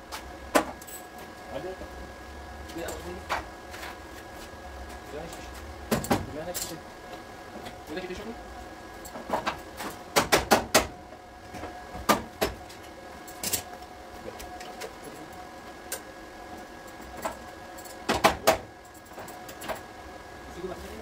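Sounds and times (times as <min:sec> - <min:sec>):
faint workshop hum: 0:00.0 - 0:21.0.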